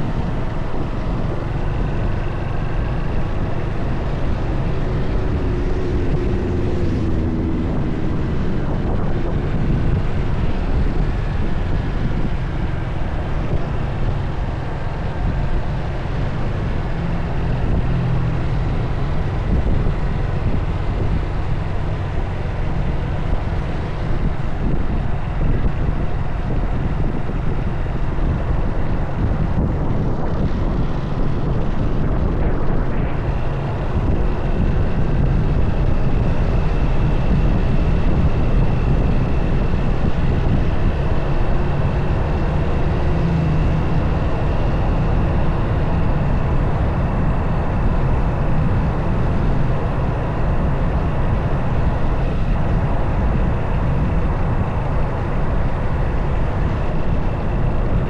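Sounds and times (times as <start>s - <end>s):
motorcycle engine: 0.0s - 58.0s
wind rumble on microphone: 0.0s - 58.0s.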